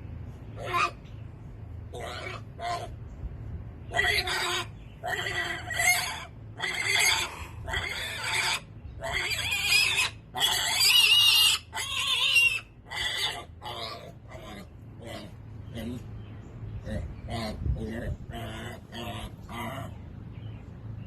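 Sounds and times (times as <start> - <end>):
farm animal calling loudly: 0.6 - 1.0, 1.9 - 3.0, 3.9 - 16.1, 16.8 - 20.0.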